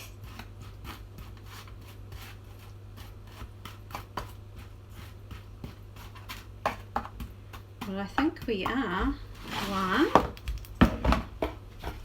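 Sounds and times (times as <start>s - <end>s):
spoon scraping sticky mixture: 0.0s - 10.4s.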